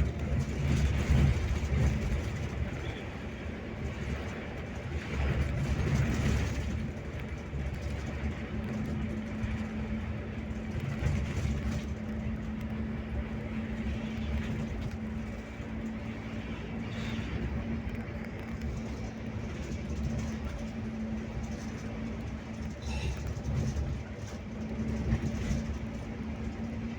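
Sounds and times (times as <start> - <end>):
coach engine drone: 0.0 - 26.9
road noise rumble: 0.0 - 26.9.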